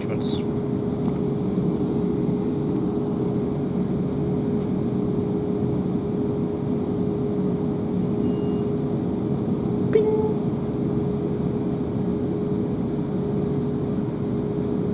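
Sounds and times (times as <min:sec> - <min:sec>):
steady electric hum: 0:00.0 - 0:14.9.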